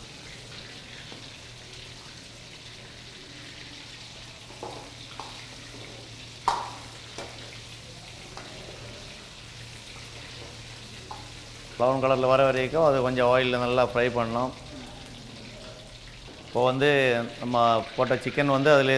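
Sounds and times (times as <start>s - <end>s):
chicken sizzling in hot oil: 0.0s - 18.9s.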